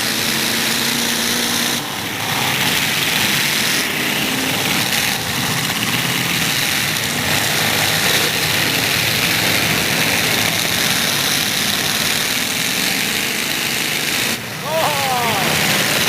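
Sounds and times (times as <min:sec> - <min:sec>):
truck engines running loudly: 0:00.0 - 0:16.0.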